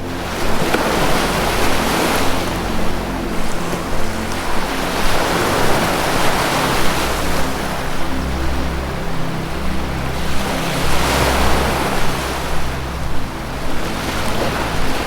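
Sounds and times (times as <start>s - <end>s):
low music drone: 0.0s - 15.0s
ocean waves breaking: 0.0s - 15.0s.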